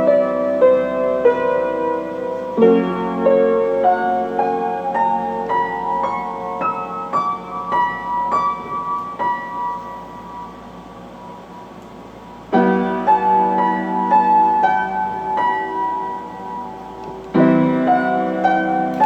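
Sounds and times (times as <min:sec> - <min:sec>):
solo piano melody: 0:00.0 - 0:19.0.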